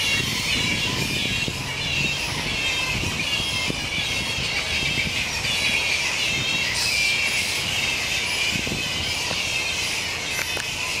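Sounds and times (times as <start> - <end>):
fruit bats squealing: 0.0 - 11.0.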